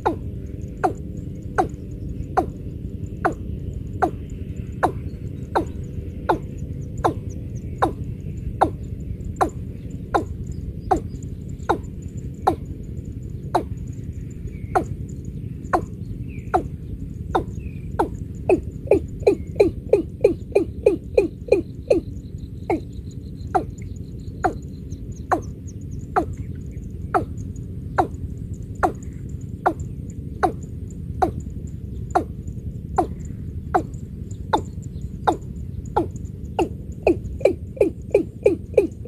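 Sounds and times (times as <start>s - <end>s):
bird calling deep hoots: 0.0s - 39.0s.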